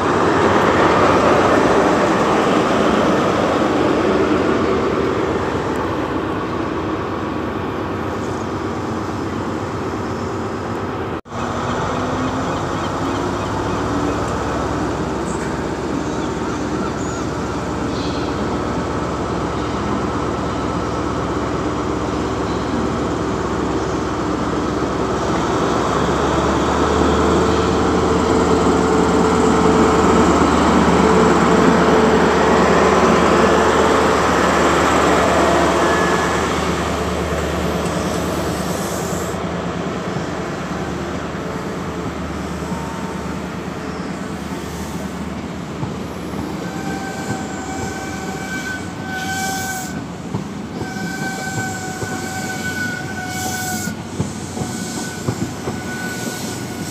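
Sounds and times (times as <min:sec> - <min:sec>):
diesel train engines running: 0:00.0 - 0:56.9.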